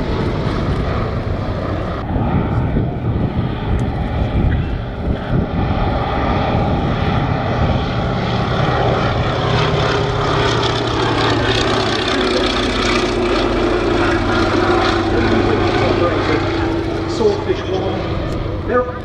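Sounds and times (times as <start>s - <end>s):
propeller plane engine in flight: 0.0s - 19.0s.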